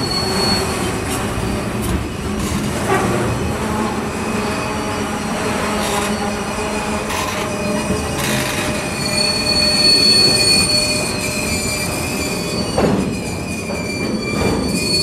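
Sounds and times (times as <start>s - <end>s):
rumble of wheels on track: 0.0s - 15.0s
train wheels squealing on rail: 0.0s - 15.0s.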